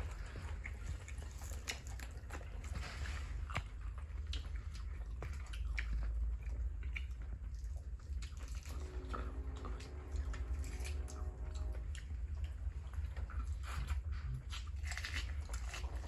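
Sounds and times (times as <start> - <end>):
chewing and biting food: 0.0 - 16.0
steady low hum: 0.0 - 16.0.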